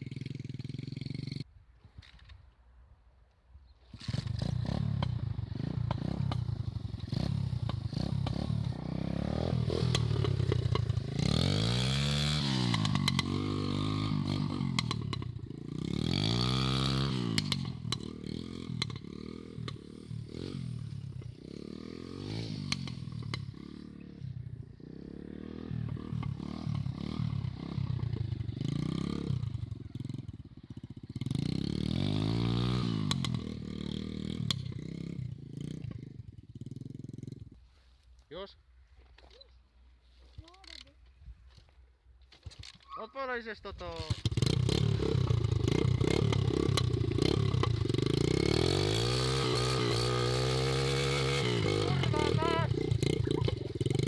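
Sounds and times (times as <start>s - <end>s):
dirt bike engine revving: 3.9s - 37.5s, 44.0s - 54.0s.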